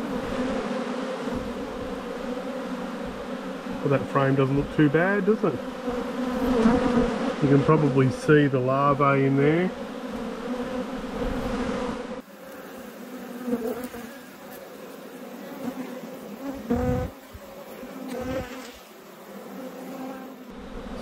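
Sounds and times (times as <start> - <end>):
honeybees buzzing: 0.0 - 21.0
single bee buzzing close: 0.0 - 21.0.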